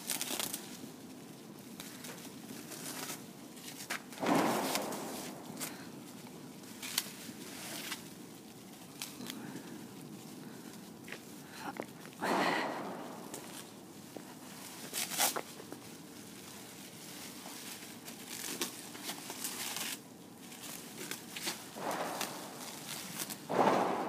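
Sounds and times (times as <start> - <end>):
paper crinkling and tearing: 0.0 - 11.4, 12.8 - 23.5.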